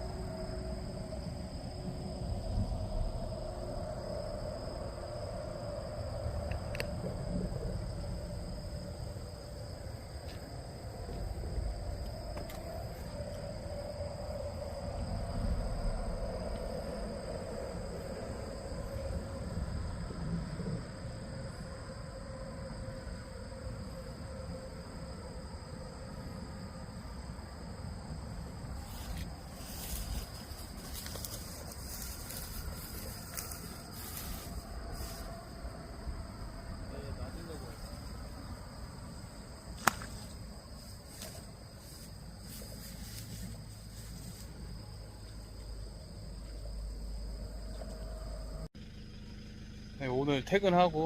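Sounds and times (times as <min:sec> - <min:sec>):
low uneven rumble: 0:00.0 - 0:51.0.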